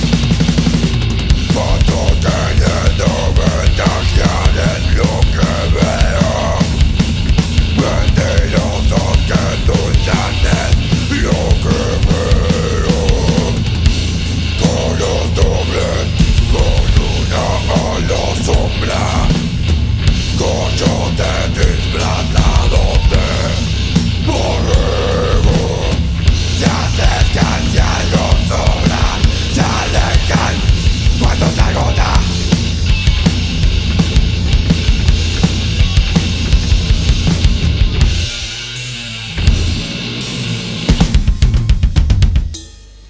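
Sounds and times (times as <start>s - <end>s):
rock band playing live: 0.0s - 42.6s
drums driving a steady beat: 0.0s - 43.0s.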